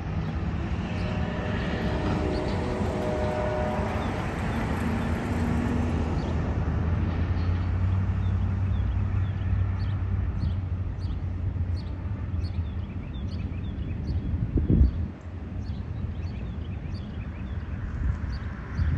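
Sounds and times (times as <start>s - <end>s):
freight train wheels rumbling on rail: 0.0s - 18.9s.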